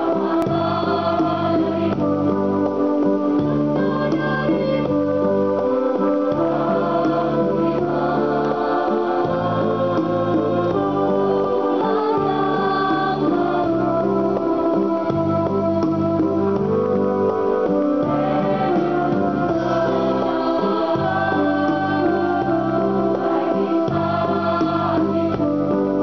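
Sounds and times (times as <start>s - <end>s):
children's choir singing: 0.0s - 26.0s
electronic keyboard: 0.0s - 26.0s.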